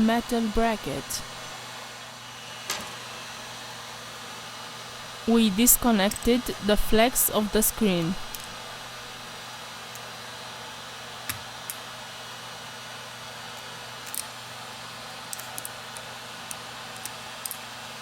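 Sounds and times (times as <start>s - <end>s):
steady hum and hiss: 0.0s - 18.0s.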